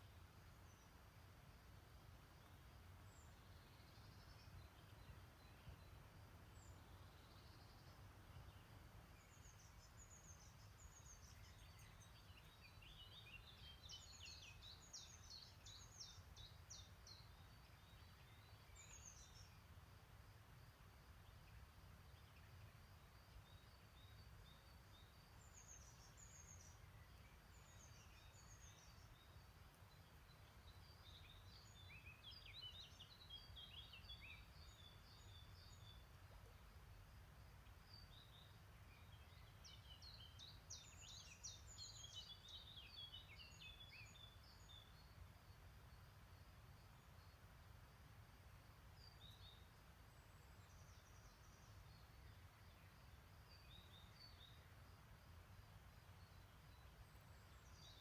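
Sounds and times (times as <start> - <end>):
small birds chirping: 0.0 - 1.2, 1.9 - 19.9, 20.6 - 47.6, 48.5 - 58.0.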